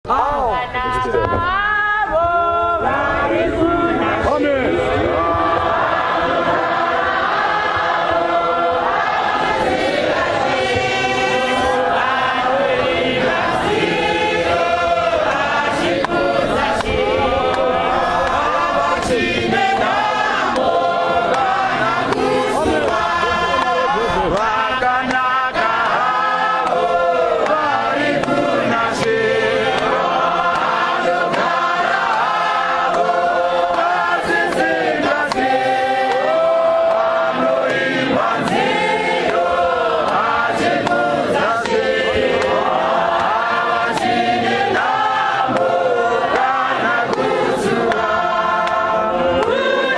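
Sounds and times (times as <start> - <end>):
congregation singing a hymn: 1.1 - 49.9.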